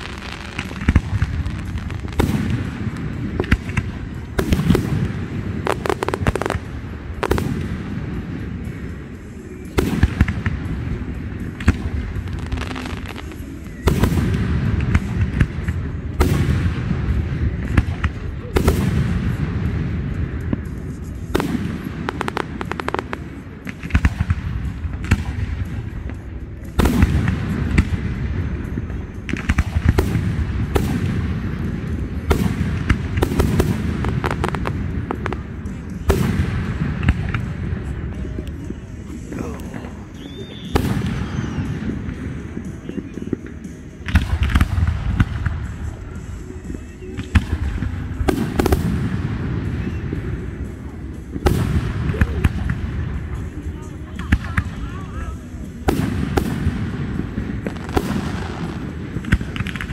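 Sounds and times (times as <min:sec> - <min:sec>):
crackling firework reports: 0:00.0 - 0:59.9.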